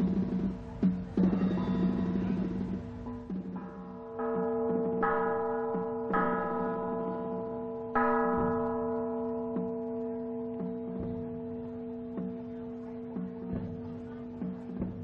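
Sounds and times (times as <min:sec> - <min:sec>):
bells struck ringing: 0:01.2 - 0:15.0.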